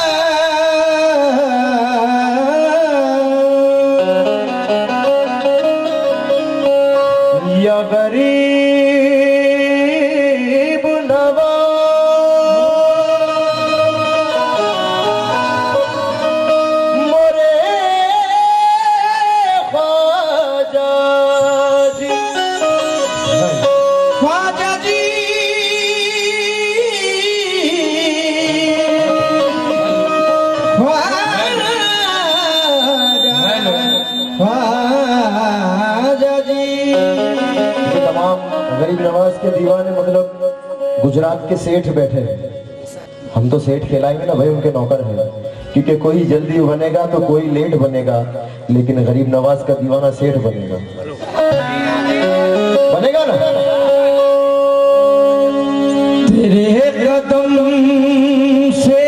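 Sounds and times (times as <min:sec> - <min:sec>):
harmonium: 0:00.0 - 0:59.0.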